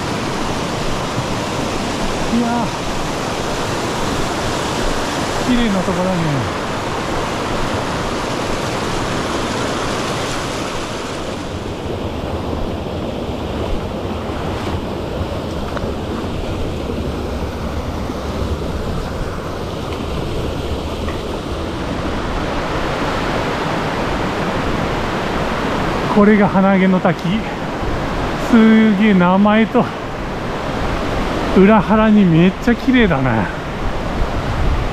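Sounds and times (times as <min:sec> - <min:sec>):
water rushing over rocks: 0:00.0 - 0:34.9.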